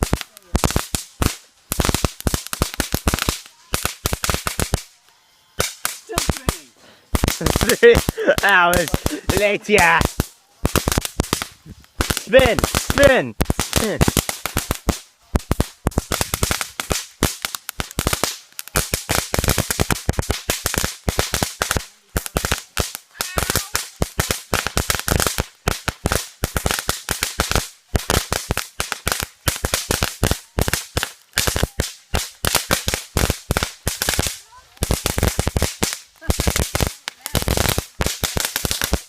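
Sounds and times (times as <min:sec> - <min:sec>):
firecrackers going off: 0:00.0 - 0:39.0.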